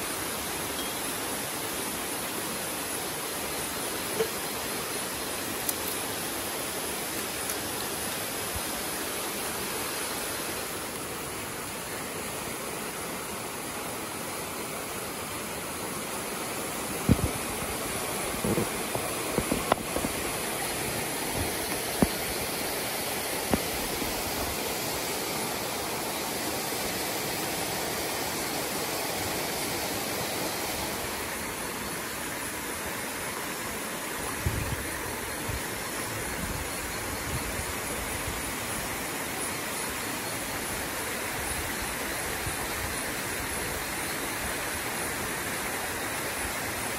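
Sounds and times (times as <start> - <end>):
campfire hissing and popping: 0.0 - 39.4.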